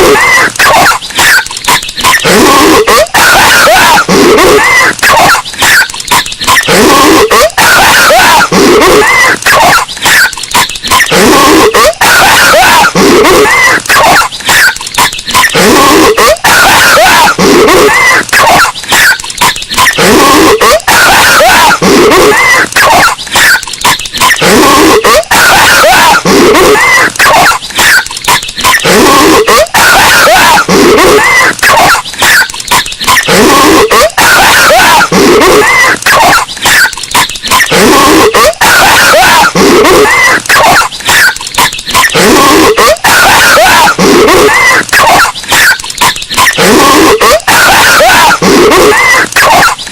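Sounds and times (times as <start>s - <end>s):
distorted cartoon coughing: 0.0s - 49.9s.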